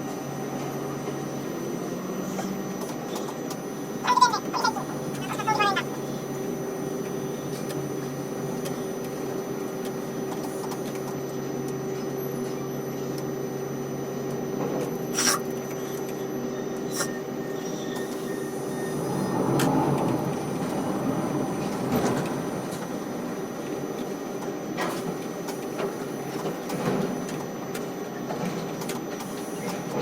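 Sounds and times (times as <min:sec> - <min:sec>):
crane machinery hum: 0:00.0 - 0:30.0.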